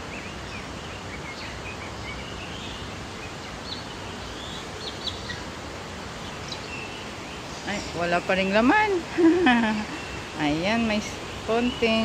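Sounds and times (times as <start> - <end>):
background hiss: 0.0 - 12.0
birds chirping: 0.0 - 12.0.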